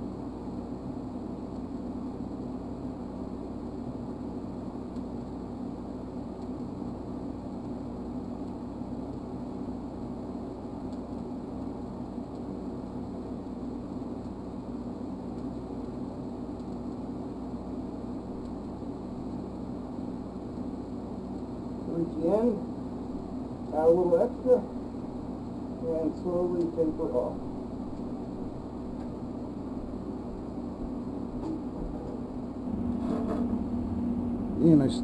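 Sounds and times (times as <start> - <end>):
welding arc humming: 0.0 - 35.0.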